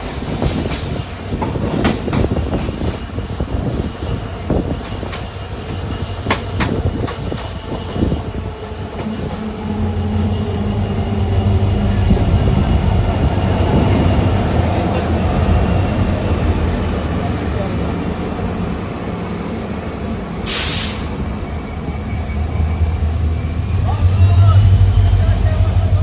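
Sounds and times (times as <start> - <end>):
diesel locomotive engine hum: 0.0 - 26.0.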